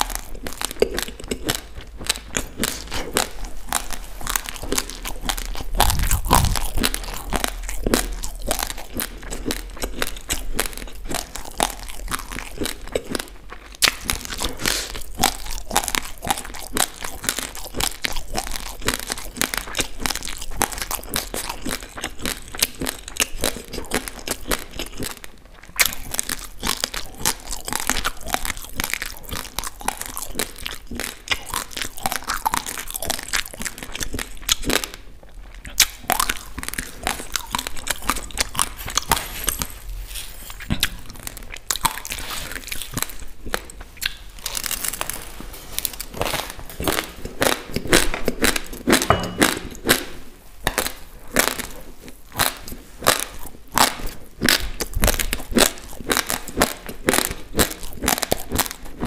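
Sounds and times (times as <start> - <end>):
rice grains crunched and chewed: 0.0 - 59.0.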